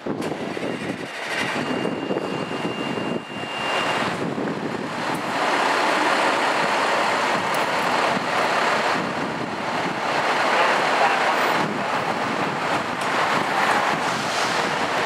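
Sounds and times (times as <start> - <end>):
city street traffic: 0.0 - 15.0
diesel engine rumbling: 0.0 - 15.0.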